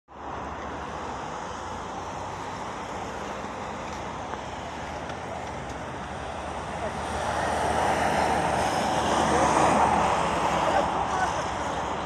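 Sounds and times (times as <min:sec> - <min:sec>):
roadside traffic: 0:00.1 - 0:12.0.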